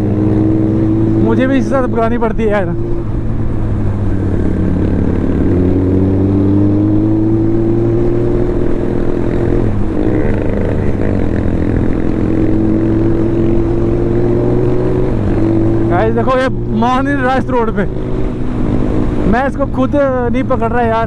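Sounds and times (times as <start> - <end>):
motorcycle engine at speed: 0.0 - 21.0.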